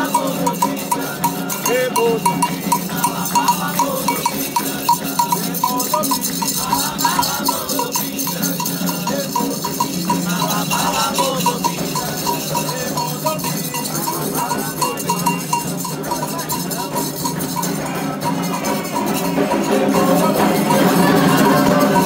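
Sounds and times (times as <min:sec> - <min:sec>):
metal bell struck rhythmically: 0:00.0 - 0:22.0
rattle shaking: 0:00.0 - 0:22.0
voices singing: 0:00.0 - 0:22.0.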